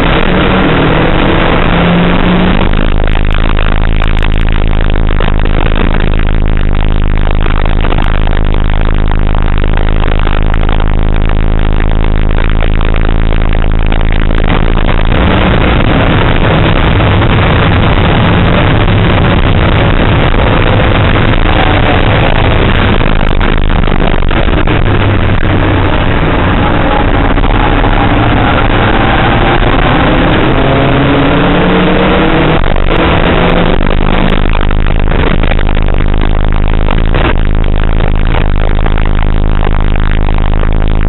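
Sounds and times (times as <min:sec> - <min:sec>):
car engine at full throttle: 0:00.0 - 0:41.0.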